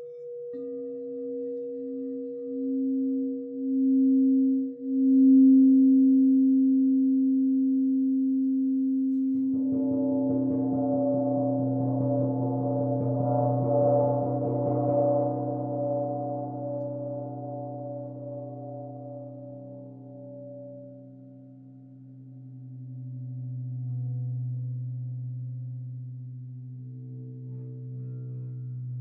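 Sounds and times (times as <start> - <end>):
singing bowl ringing tone: 0.0 - 24.6.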